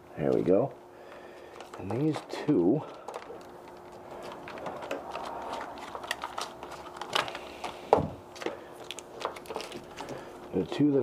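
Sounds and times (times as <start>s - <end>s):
faint steady hum: 0.0s - 11.0s
wires clicking and rustling: 1.4s - 10.8s.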